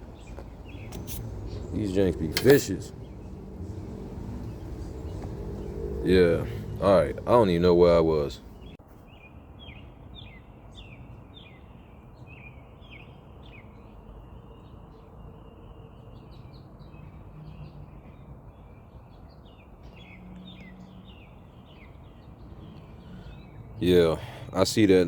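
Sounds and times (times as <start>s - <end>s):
bird chirping: 0.0s - 24.7s.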